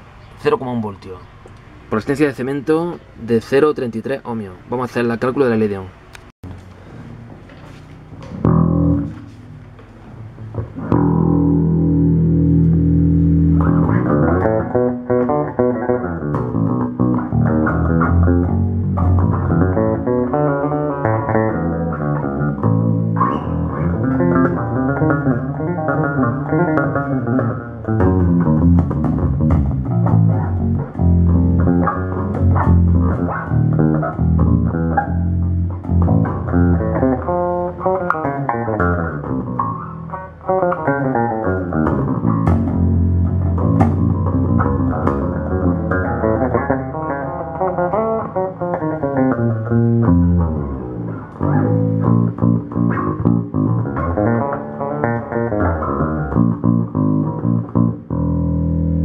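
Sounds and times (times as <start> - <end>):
electric bass guitar plucked notes: 8.0 - 59.0.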